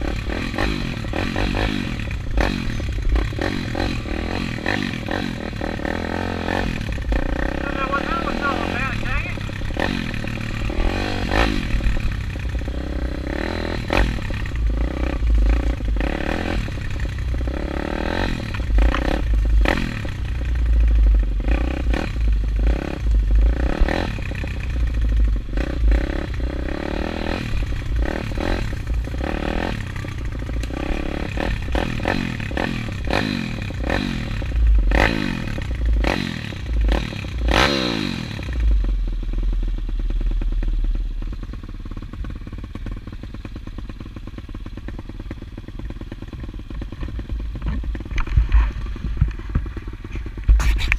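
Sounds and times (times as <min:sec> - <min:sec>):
pit bike engine revving: 0:00.0 - 0:50.9.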